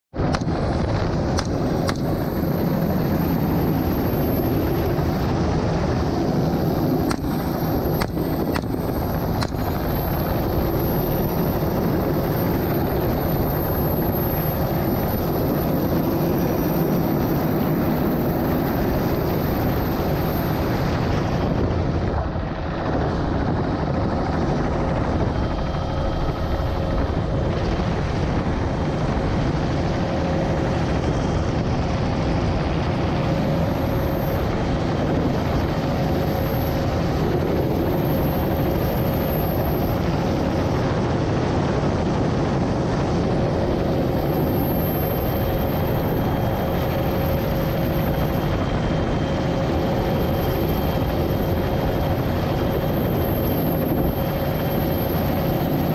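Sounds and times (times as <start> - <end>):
helicopter engine and rotor: 0.1 - 55.9.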